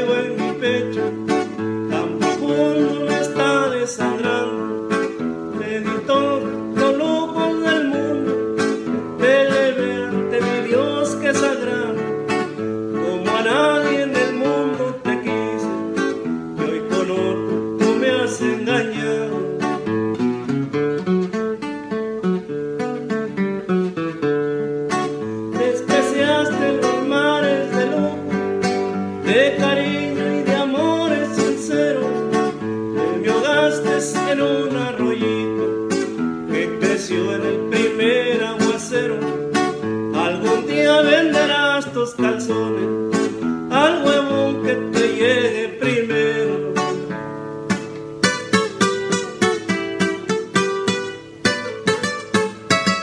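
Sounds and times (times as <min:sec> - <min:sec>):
man singing: 0:00.0 - 0:20.2, 0:24.8 - 0:52.0
acoustic guitar strumming: 0:00.0 - 0:53.0.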